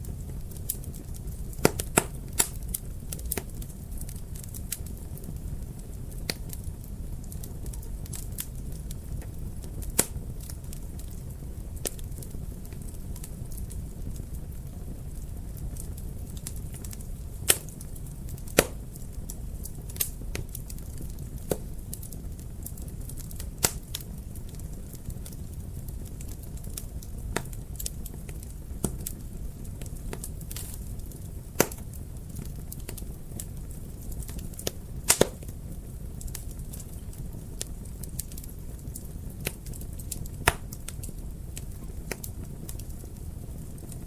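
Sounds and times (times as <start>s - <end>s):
fire crackling and popping: 0.0s - 44.0s
fire rumbling: 0.0s - 44.0s.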